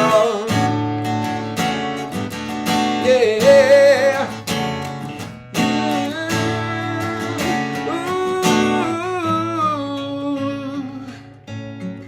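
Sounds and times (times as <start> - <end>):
acoustic guitar strumming: 0.0 - 12.0
looped guitar parts: 0.0 - 12.0.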